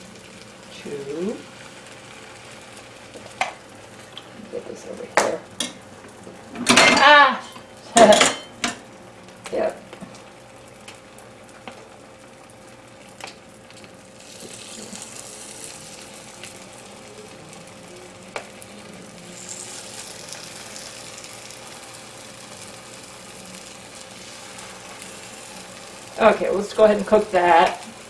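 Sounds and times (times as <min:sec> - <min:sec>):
patties sizzling in oil: 0:00.0 - 0:28.0.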